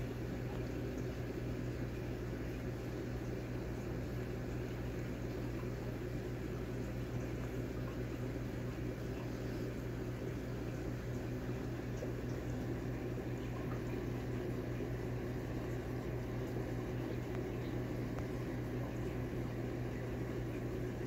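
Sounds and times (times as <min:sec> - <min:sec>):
aquarium equipment humming: 0:00.0 - 0:21.0.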